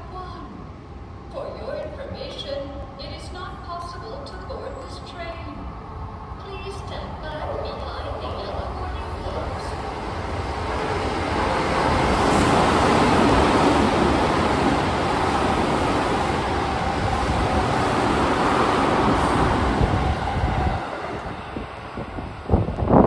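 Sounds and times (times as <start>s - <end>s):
electric train rushing past: 0.6s - 23.0s.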